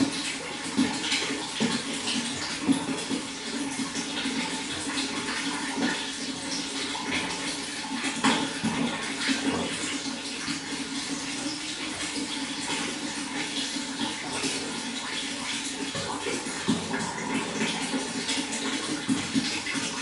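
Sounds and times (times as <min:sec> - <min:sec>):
running water splashing: 0:00.0 - 0:20.0.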